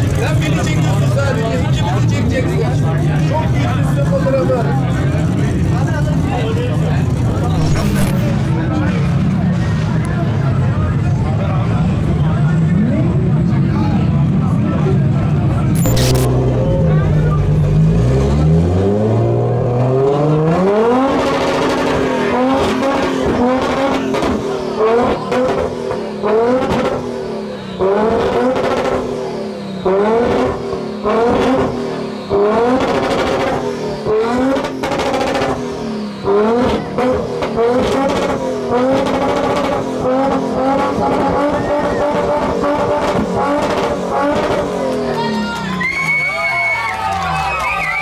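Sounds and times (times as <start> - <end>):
car engine revving: 0.0 - 10.6, 14.8 - 45.4.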